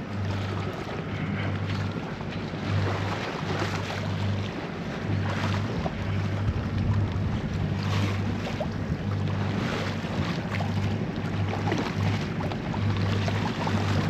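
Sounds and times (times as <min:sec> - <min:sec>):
diesel engine droning: 0:00.0 - 0:14.0
water rushing past hull: 0:00.0 - 0:14.0
wind buffeting microphone: 0:00.0 - 0:14.0.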